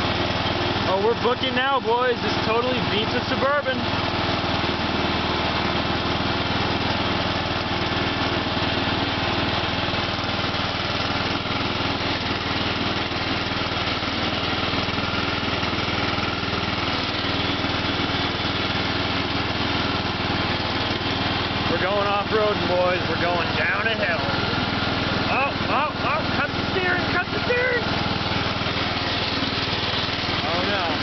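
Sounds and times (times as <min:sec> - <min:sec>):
lawn tractor engine humming: 0:00.0 - 0:31.0.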